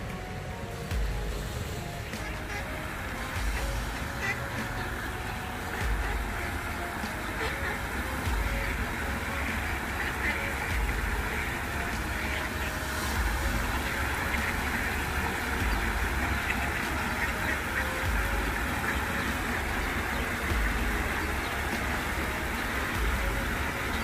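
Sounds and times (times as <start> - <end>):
ducks quacking: 0.0 - 24.0
water rushing over a weir: 0.0 - 24.0.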